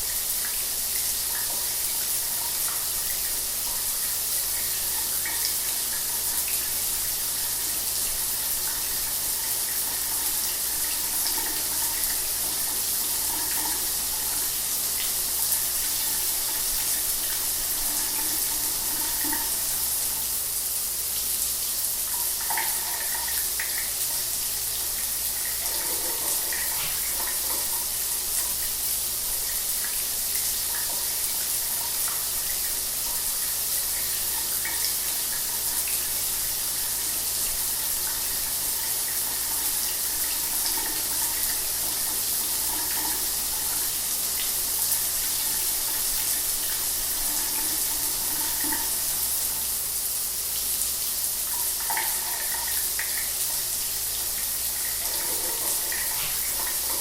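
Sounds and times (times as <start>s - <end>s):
shower water spraying and splashing: 0.0s - 57.0s.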